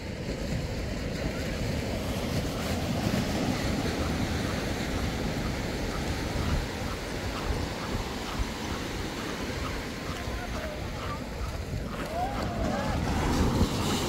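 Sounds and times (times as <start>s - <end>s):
ocean waves washing onto beach: 0.0s - 14.0s
wind buffeting microphone: 0.0s - 14.0s.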